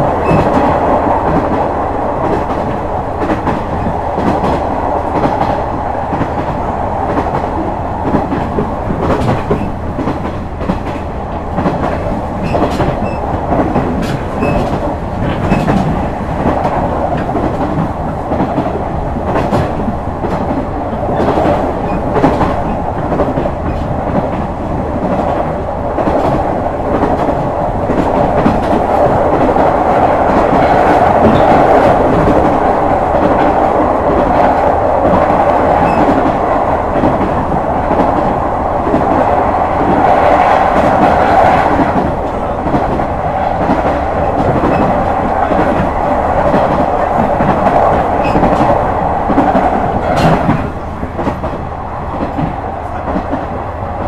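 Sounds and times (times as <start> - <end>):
train wheels rumbling on rail: 0.0 - 54.0
rail-joint clicks: 0.1 - 54.0.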